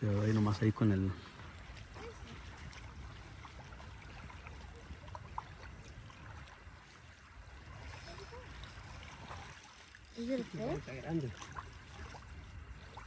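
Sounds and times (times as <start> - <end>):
water lapping: 0.0 - 13.0
wind rumbling on microphone: 1.2 - 13.0.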